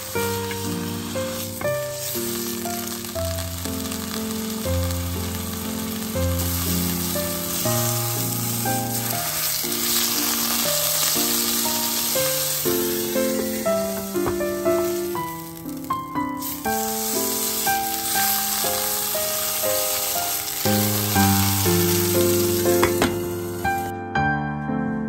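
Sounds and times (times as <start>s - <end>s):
food sizzling in a pan: 0.0s - 23.9s
background music: 0.0s - 25.0s.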